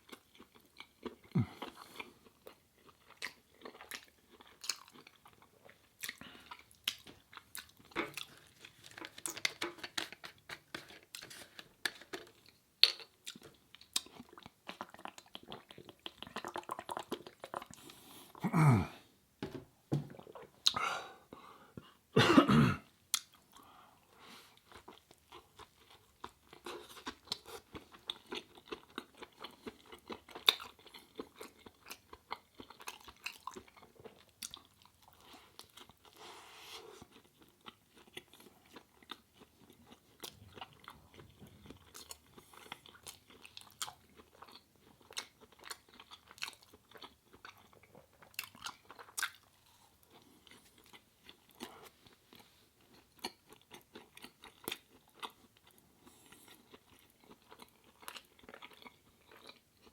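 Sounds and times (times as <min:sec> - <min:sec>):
chewing and crunching food: 0:00.0 - 0:18.4, 0:20.0 - 0:22.1, 0:22.8 - 0:59.9.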